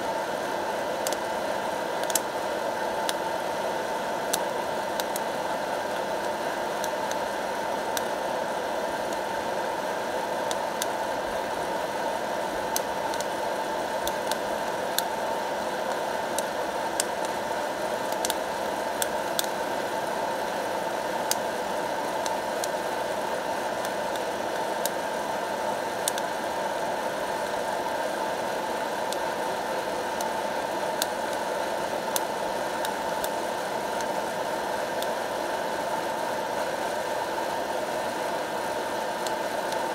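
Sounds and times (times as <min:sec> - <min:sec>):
popcorn popper fan blowing: 0:00.0 - 0:39.9.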